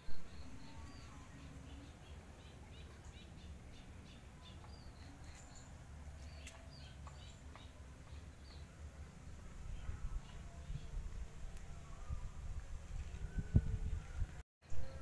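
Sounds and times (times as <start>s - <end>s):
small birds chirping: 0.1s - 12.4s.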